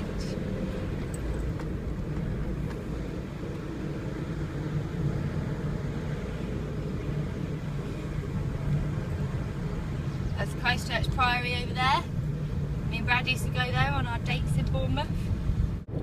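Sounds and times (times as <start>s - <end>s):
car interior road rumble: 0.0s - 16.0s.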